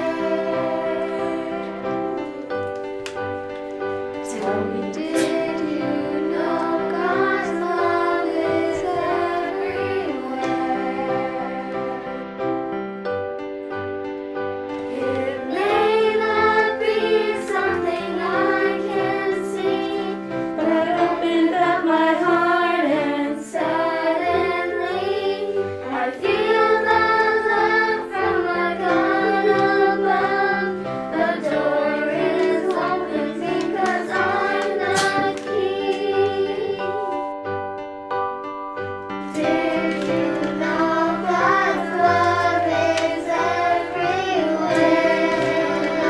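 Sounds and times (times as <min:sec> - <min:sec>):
children's choir singing: 0:00.0 - 0:12.7, 0:14.7 - 0:37.3, 0:39.2 - 0:46.0
instrumental accompaniment: 0:00.0 - 0:46.0.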